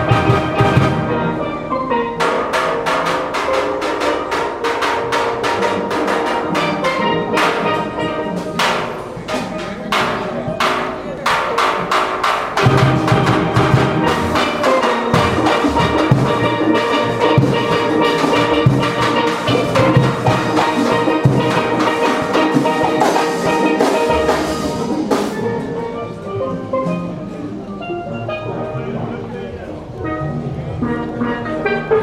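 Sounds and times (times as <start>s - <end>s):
drums: 0.0s - 28.4s
steelpans: 0.0s - 32.0s.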